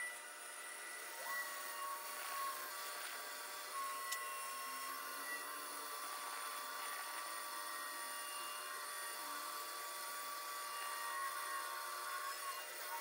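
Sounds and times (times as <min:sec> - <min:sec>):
band saw whine: 0:00.0 - 0:13.0.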